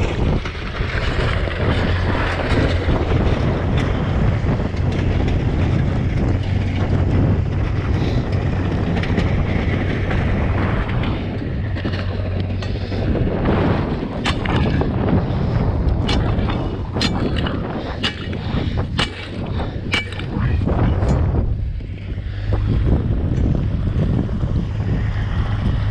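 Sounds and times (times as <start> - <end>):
vehicle engine idling: 0.0 - 25.9
wind on microphone: 0.0 - 25.9.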